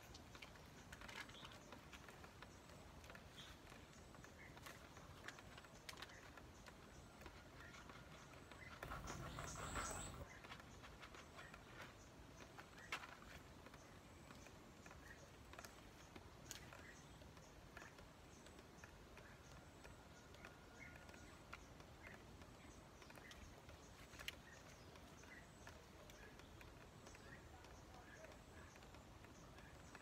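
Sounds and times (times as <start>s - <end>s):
soft bird chirps: 0.1s - 30.0s.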